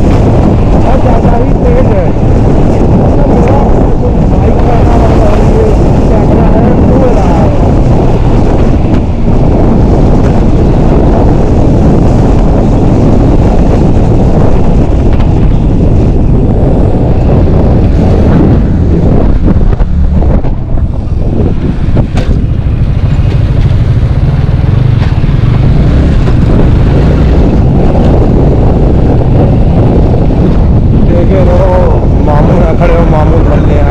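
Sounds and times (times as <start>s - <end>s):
motorcycle engine: 0.0s - 33.9s
wind rush on microphone: 0.0s - 33.9s.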